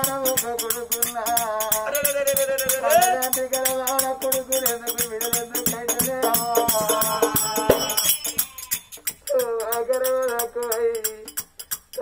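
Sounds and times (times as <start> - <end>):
clicking percussion: 0.0 - 12.0.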